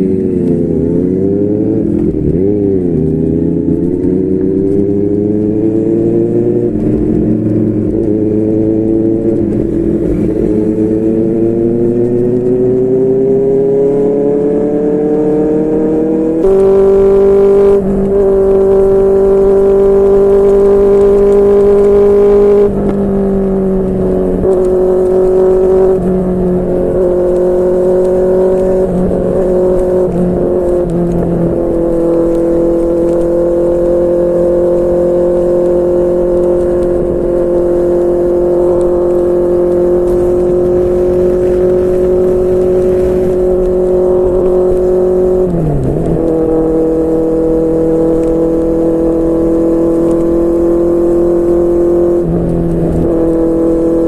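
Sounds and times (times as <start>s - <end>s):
motorcycle engine on the road: 0.0s - 54.0s.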